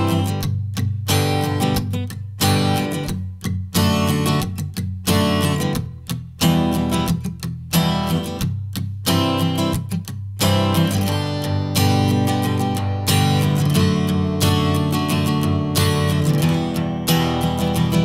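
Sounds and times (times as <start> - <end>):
strummed acoustic guitar music: 0.0 - 18.0.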